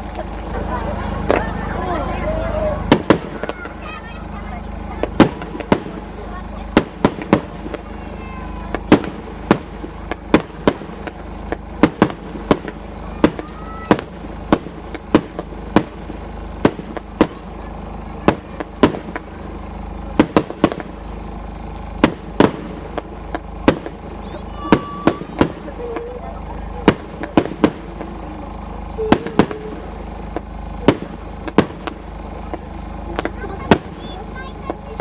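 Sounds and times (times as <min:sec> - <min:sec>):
fireworks bangs: 0:00.0 - 0:35.0
rumble of echoing detonations: 0:00.0 - 0:35.0.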